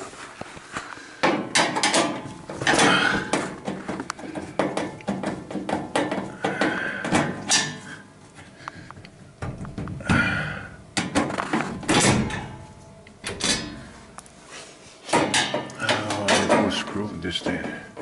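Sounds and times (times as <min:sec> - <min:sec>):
sheet metal clanking and rattling: 0:01.2 - 0:08.0, 0:09.2 - 0:14.1, 0:15.1 - 0:18.0.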